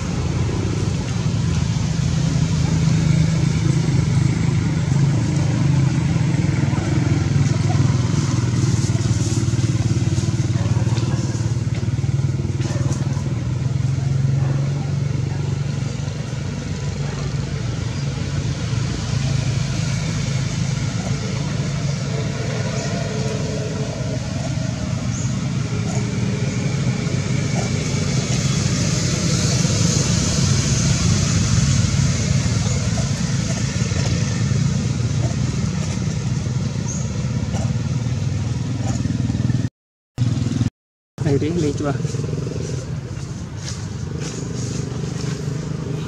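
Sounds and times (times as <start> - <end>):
low mechanical drone: 0.0 - 46.0.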